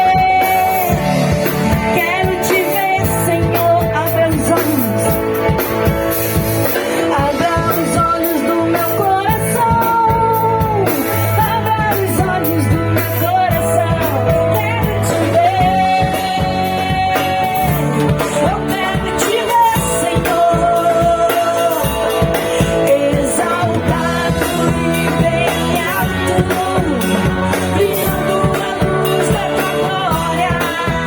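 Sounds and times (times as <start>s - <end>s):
woman singing: 0.0s - 5.6s, 6.6s - 31.0s
bass guitar: 0.0s - 31.0s
drums: 0.0s - 31.0s
electric guitar: 0.0s - 31.0s
keyboard: 0.0s - 31.0s.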